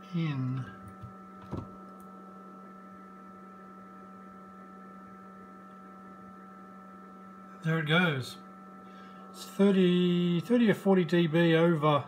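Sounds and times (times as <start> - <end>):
electrical hum with tones: 0.0 - 12.0.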